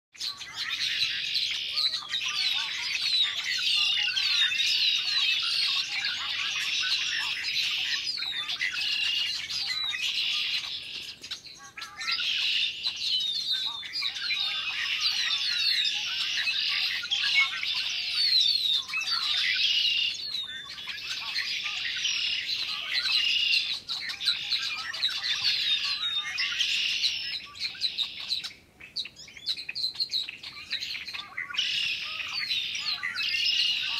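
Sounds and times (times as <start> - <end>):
flock of birds chirping: 0.1 - 33.9.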